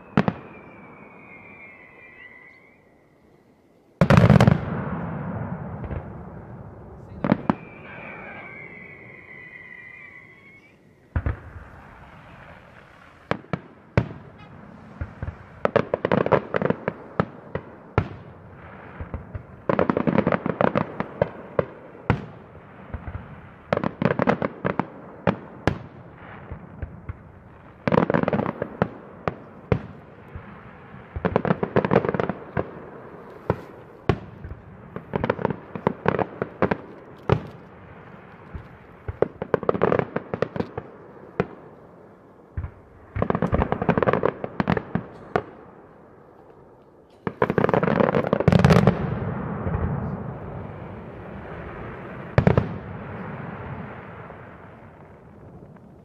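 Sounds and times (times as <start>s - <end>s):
fireworks bangs: 0.0s - 3.0s, 4.0s - 56.0s.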